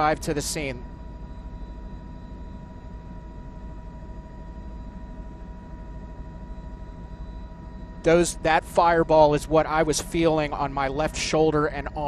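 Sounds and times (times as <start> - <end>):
helicopter rotor rumble: 0.0 - 12.0
thin steady whine: 0.0 - 12.0.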